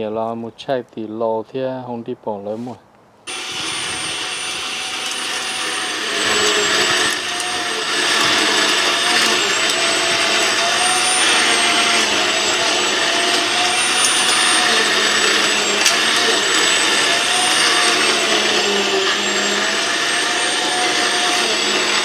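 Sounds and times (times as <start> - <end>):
electric cultivator whining: 3.3 - 22.0.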